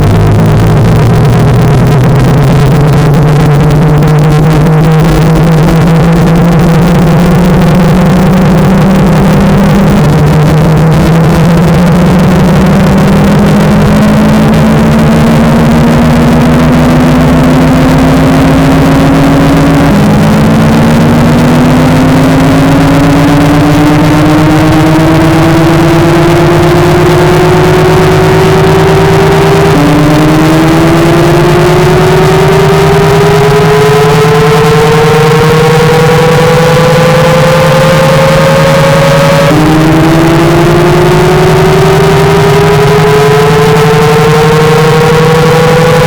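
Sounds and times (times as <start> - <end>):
loud distorted droning noise: 0.0 - 46.0.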